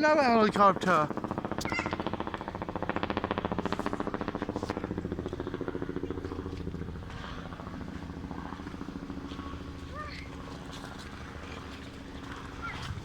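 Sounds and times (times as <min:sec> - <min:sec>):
helicopter rotor blades beating: 0:00.0 - 0:13.0.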